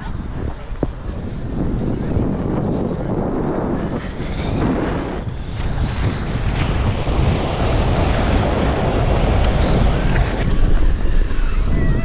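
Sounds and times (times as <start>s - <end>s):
wind buffeting microphone: 0.0s - 12.0s
snow tube sliding on snow: 1.0s - 12.0s.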